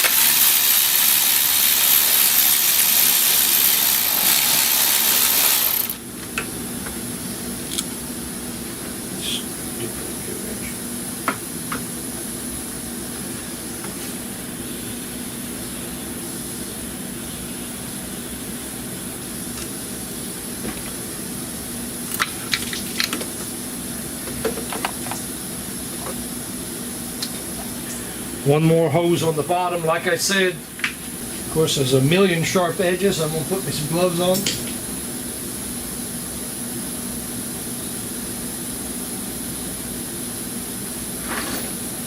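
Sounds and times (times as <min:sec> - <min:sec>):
workshop hum and hiss: 0:00.0 - 0:42.0.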